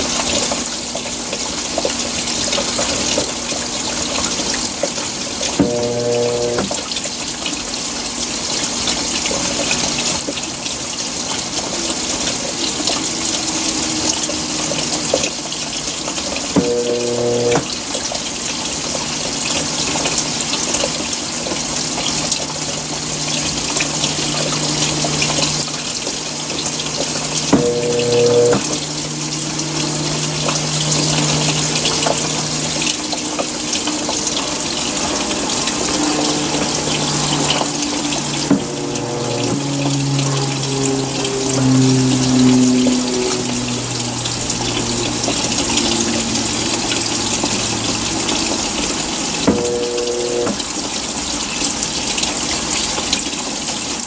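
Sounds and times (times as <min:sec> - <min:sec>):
washing machine hum: 0:00.0 - 0:53.2
water spraying into washing machine: 0:01.8 - 0:07.4, 0:08.2 - 0:52.7.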